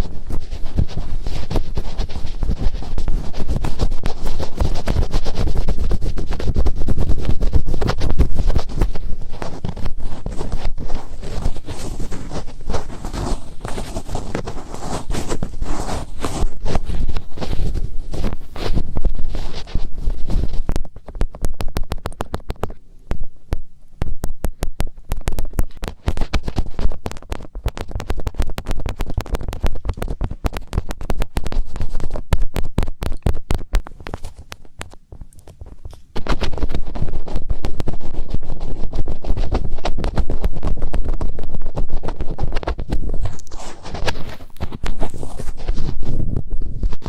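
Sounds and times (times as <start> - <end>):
fingertips scratching microphone: 0.0 - 47.0.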